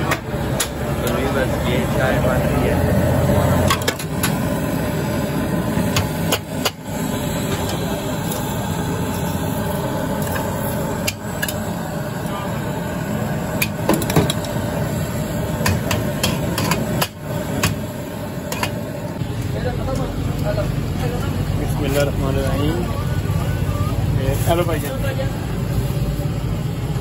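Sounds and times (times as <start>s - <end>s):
gas stove burner roaring: 0.0s - 27.0s.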